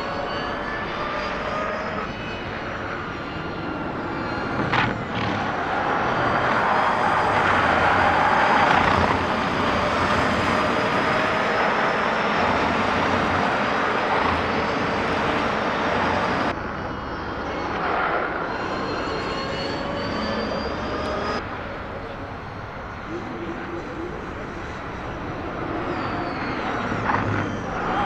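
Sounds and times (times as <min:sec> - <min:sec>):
electric race cars passing: 0:00.0 - 0:28.0.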